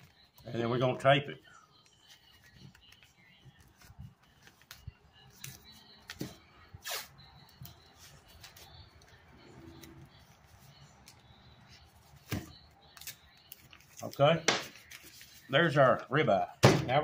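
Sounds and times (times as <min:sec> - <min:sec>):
paper crinkling: 0:01.7 - 0:16.2.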